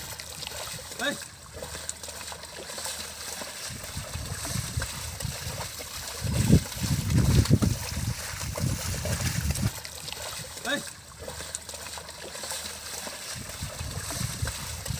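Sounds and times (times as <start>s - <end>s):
muddy water sloshing and trickling: 0.0s - 14.9s.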